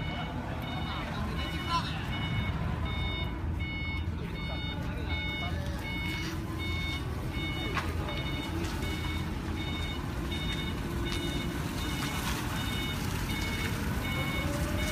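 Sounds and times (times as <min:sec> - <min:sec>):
forklift engine running: 0:00.0 - 0:14.9
forklift warning beeps: 0:00.0 - 0:14.9.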